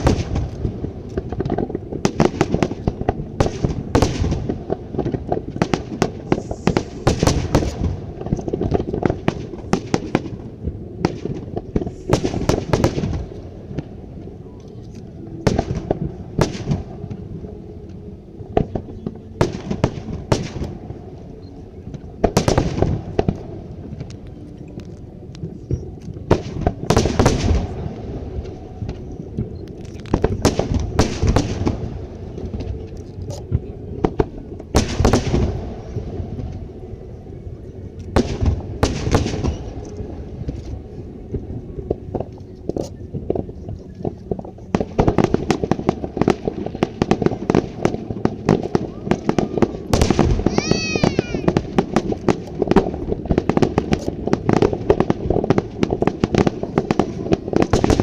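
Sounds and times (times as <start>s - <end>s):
fireworks bangs: 0.0s - 14.1s, 21.9s - 24.3s, 25.5s - 36.8s, 38.1s - 58.0s
continuous low rumble: 0.0s - 58.0s.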